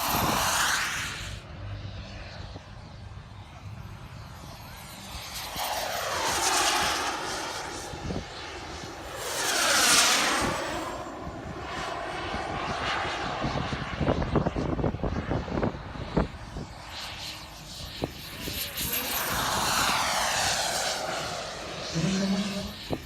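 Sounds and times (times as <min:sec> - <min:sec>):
model jet flying by: 0:00.0 - 0:23.0.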